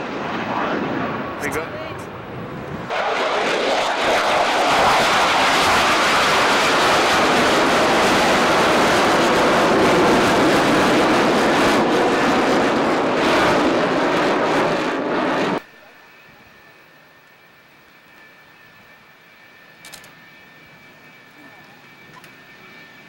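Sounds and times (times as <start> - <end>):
jet aircraft flying past: 0.0 - 23.0.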